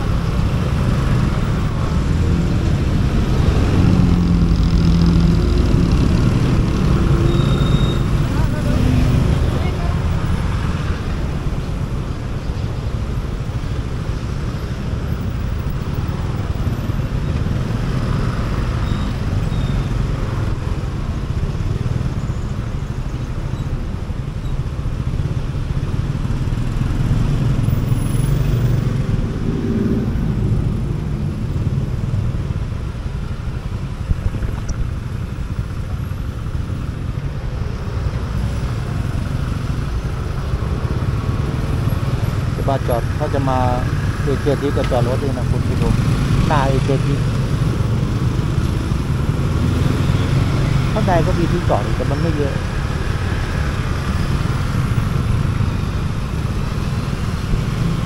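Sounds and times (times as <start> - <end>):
other vehicles: 0.0 - 58.0
road noise: 0.0 - 58.0.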